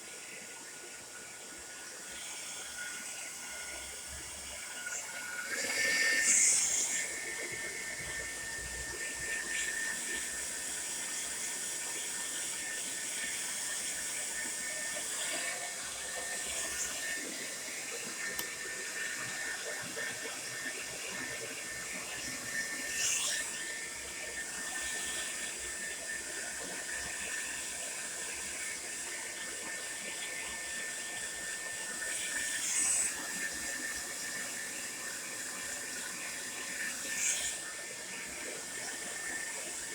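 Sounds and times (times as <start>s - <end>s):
hair dryer running: 2.3s - 39.9s.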